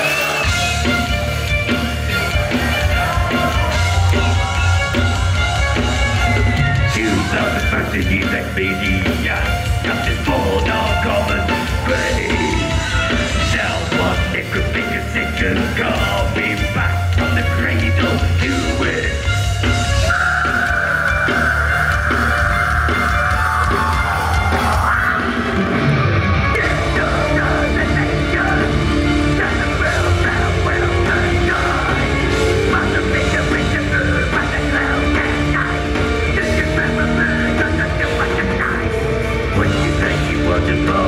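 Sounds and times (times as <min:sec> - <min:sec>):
heavy metal band playing live: 0:00.0 - 0:41.0.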